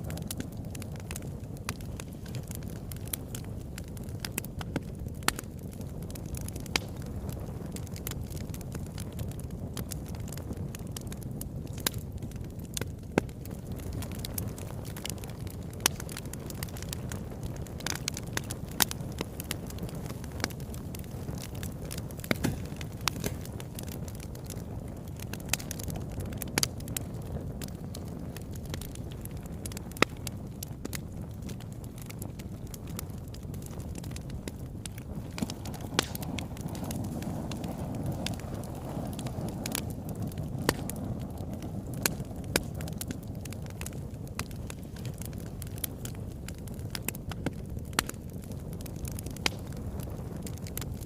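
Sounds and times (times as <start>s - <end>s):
fire crackles and pops: 0.0s - 51.0s
low rumble of flames: 0.0s - 51.0s.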